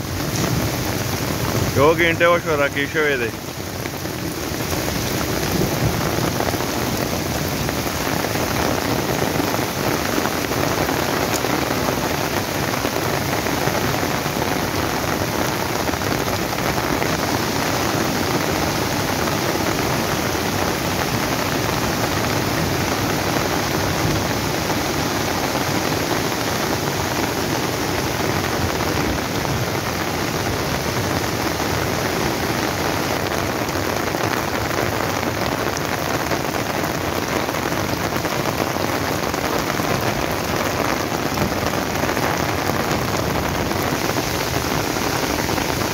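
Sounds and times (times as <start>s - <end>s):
heavy rain falling: 0.0s - 45.9s
stream rushing over rocks: 0.0s - 45.9s.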